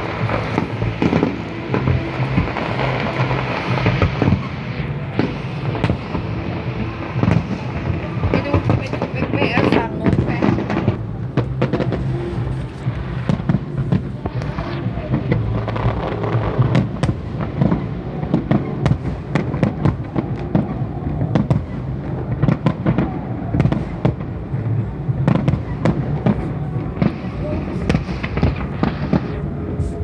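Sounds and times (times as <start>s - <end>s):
fireworks bangs and crackles: 0.0s - 30.0s
low rumble: 0.0s - 30.0s.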